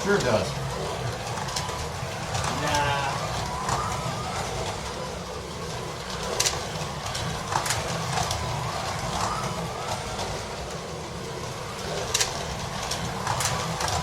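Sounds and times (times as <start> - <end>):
slot cars electric motor hum: 0.0 - 14.0.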